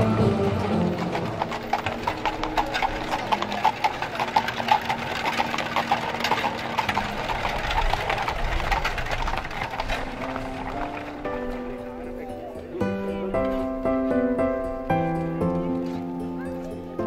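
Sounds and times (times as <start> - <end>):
horse hooves clip-clopping: 0.0 - 17.0.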